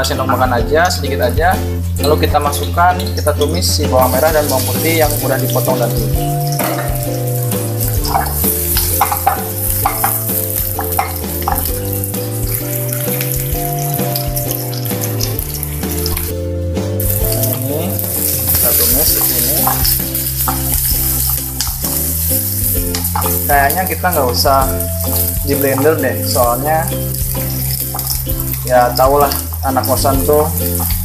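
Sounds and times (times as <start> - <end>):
background music: 0.0 - 31.0
shallots sizzling in frying pan: 0.0 - 31.0.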